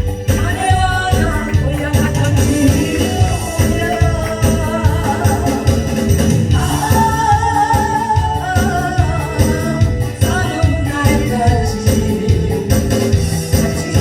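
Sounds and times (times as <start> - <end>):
backing track with steady beat: 0.0 - 14.0
person singing: 0.0 - 14.0.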